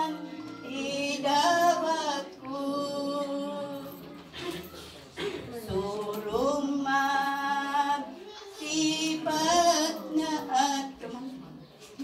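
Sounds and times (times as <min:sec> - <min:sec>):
woman singing unaccompanied: 0:00.0 - 0:04.3, 0:05.5 - 0:12.0.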